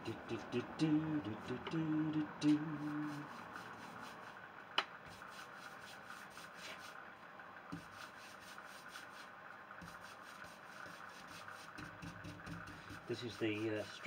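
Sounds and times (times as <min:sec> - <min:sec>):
soft rubbing strokes on wood: 0:01.7 - 0:07.1, 0:07.7 - 0:14.0.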